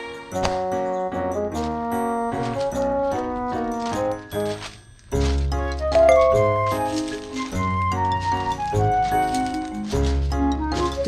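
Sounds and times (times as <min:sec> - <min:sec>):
light melodic tune: 0:00.0 - 0:11.0.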